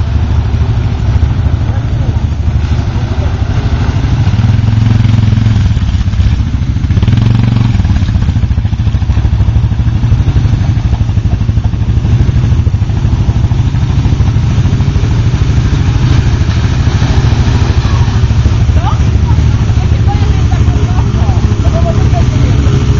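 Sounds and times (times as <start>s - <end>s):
quad engine running: 0.0s - 22.9s.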